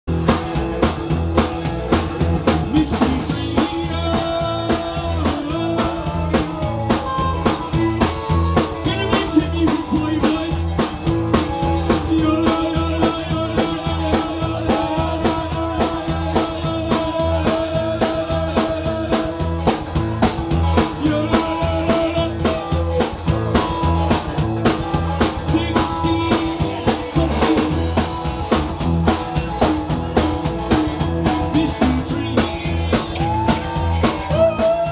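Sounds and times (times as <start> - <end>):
drum kit: 0.0 - 34.9
electric guitar: 0.0 - 34.9
upright double bass: 0.1 - 34.9.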